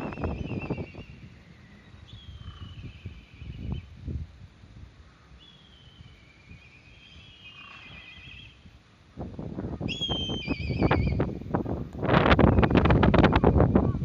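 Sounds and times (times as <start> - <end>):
kites calling: 0.0 - 4.0, 5.0 - 8.7, 9.6 - 14.0
wind buffeting microphone: 0.0 - 5.0, 5.7 - 14.0.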